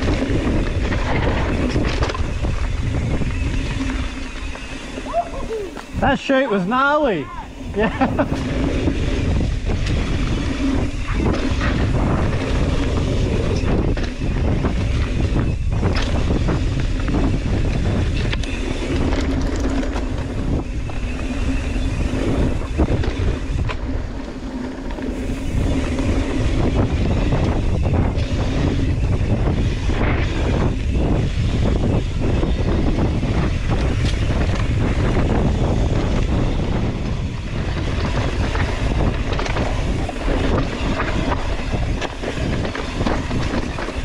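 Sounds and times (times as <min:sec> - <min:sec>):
bike knocking and rattling: 0:00.0 - 0:44.0
tyres rushing on dirt and rock: 0:00.0 - 0:44.0
wind buffeting microphone: 0:00.0 - 0:44.0.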